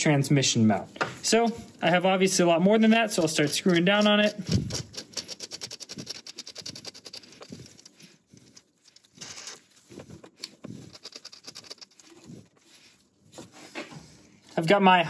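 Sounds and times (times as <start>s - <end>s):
glove rubbing on plastic: 1.2s - 14.8s.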